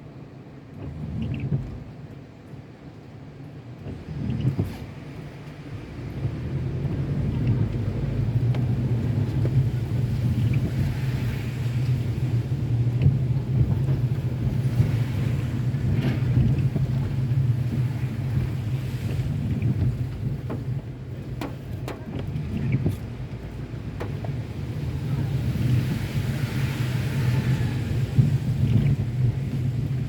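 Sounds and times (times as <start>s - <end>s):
car engine and tyre noise: 0.0s - 30.0s.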